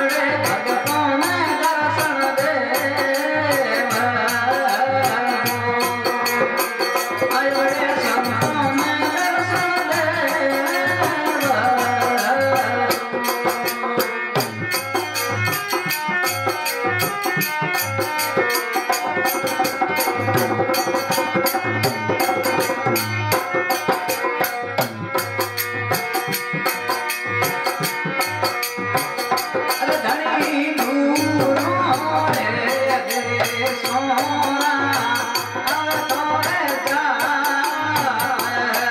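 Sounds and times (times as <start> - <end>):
fast percussion beat: 0.0 - 38.9
harmonium: 0.0 - 38.9.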